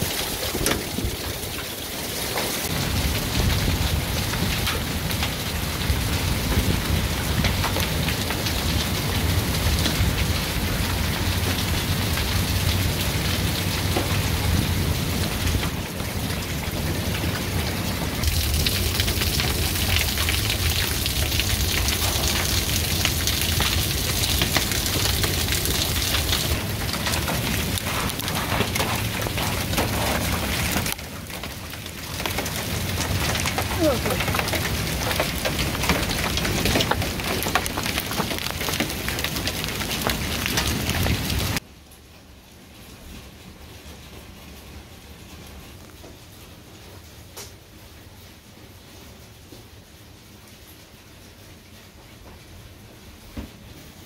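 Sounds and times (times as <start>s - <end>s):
hail and rain pelting: 0.0s - 54.0s.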